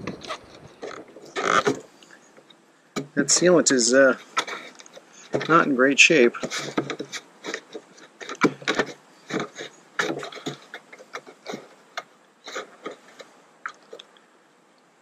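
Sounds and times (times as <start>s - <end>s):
sealant scraping and clicking: 0.0s - 3.2s, 4.1s - 5.7s, 6.3s - 14.1s.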